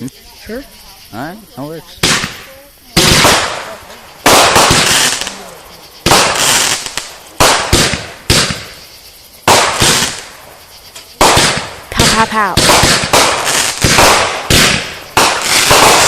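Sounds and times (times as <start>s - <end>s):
fireworks bangs with echo: 2.0s - 16.0s.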